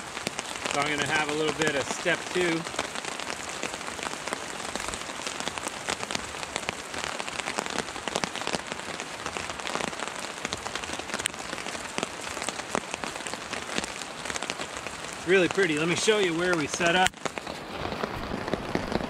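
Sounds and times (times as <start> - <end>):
rain on tarp: 0.0 - 19.0.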